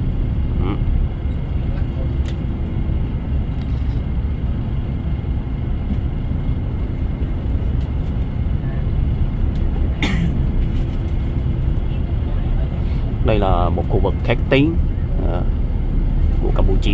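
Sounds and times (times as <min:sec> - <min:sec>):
bus engine and road rumble: 0:00.0 - 0:16.9.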